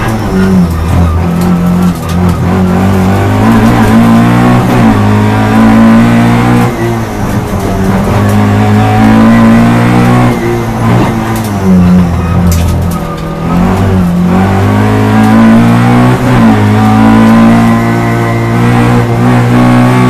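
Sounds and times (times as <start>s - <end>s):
race car engine revving hard: 0.0s - 20.0s.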